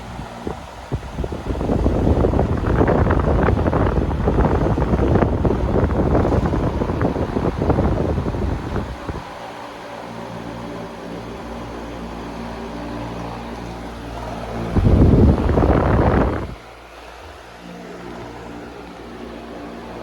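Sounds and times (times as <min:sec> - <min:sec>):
air rushing from fan: 0:00.0 - 0:20.0
fan motor hum: 0:00.0 - 0:20.0.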